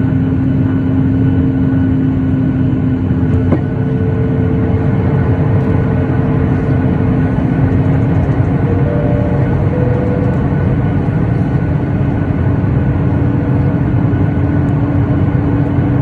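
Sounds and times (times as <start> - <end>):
constant hum: 0.0 - 16.0
jet engine cabin rumble: 0.0 - 16.0.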